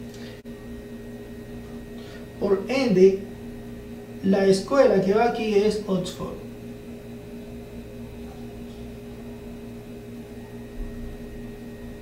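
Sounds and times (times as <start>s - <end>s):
electrical hum with constant tones: 0.0s - 12.0s.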